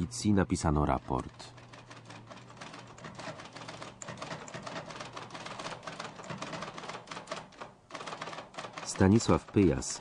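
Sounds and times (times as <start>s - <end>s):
typewriter keys clacking: 0.9s - 10.0s.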